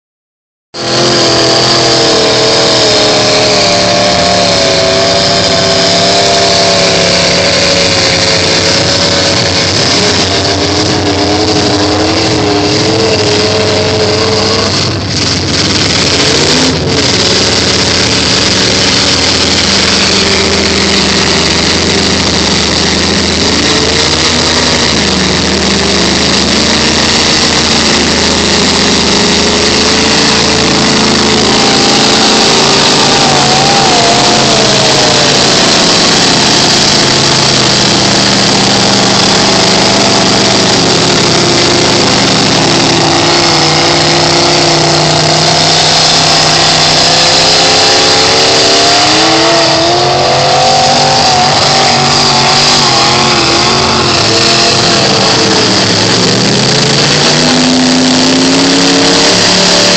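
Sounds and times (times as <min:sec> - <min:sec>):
truck engines revving: 0:00.7 - 0:59.9
steady rush of noise: 0:00.8 - 0:59.9.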